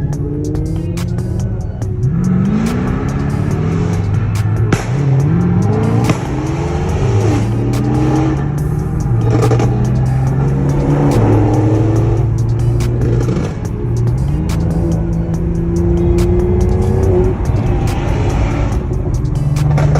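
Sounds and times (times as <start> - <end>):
car engine revving and accelerating: 0.0 - 19.9
music playing: 0.0 - 19.9.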